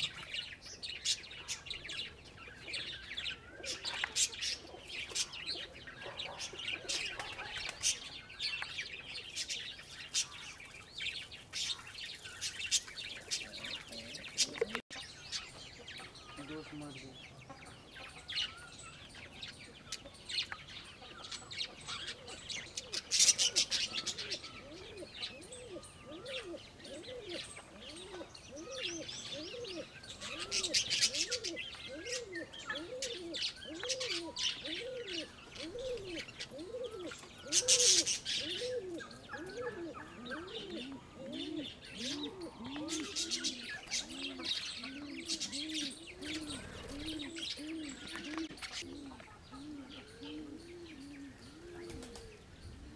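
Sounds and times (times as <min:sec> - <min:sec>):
birds chirping rapidly: 0:00.0 - 0:52.9
pigeons cooing: 0:00.0 - 0:52.9.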